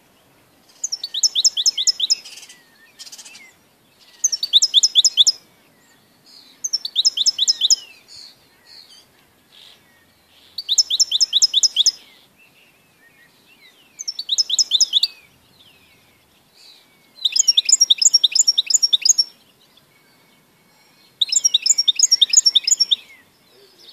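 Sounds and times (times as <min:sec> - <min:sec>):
goldfinch singing: 0:00.0 - 0:23.9.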